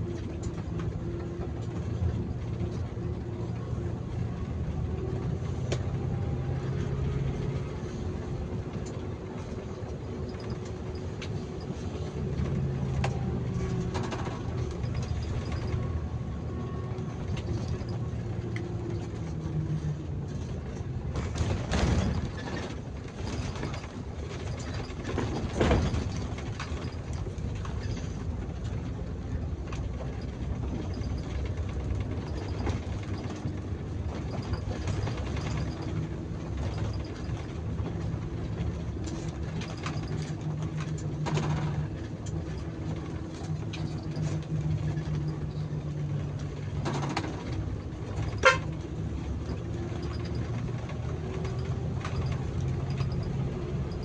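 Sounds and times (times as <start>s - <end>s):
bus engine running: 0.0s - 54.0s
road noise: 0.0s - 54.0s.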